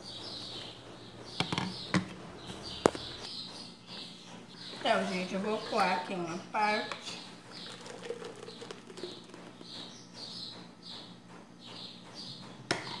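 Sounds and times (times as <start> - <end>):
small bird chirping: 0.0 - 5.8, 7.1 - 12.5.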